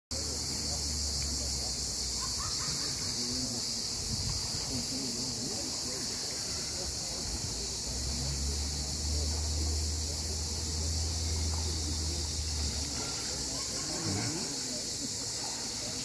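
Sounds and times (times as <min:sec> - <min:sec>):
cicadas chorus: 0:00.1 - 0:16.0.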